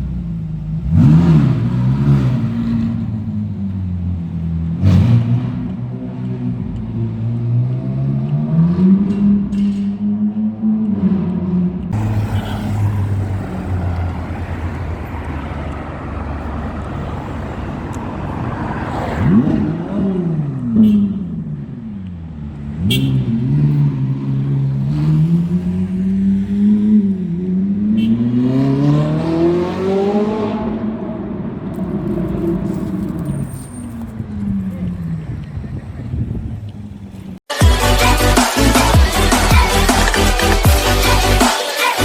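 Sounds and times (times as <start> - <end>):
sports car engine revving: 0.0 - 41.4.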